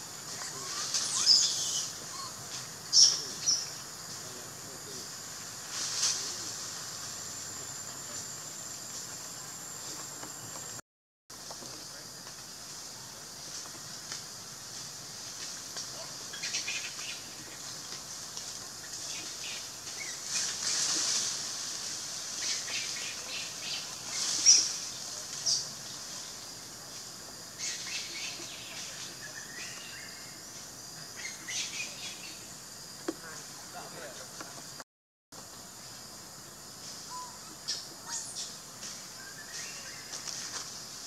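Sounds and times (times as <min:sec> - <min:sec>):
steady high hiss: 0:00.0 - 0:34.8, 0:35.4 - 0:41.0.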